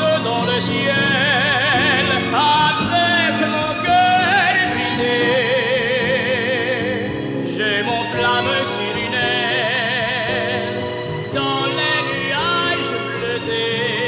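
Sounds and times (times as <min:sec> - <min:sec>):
film score melody with vibrato: 0:00.0 - 0:14.0.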